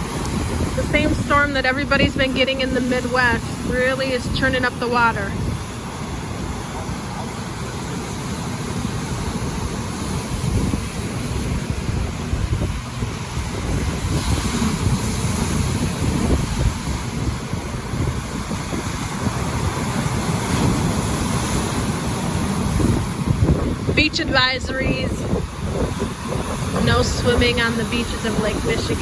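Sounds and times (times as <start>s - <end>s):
surf breaking on shore: 0.0s - 29.0s
wind buffeting microphone: 0.0s - 29.0s.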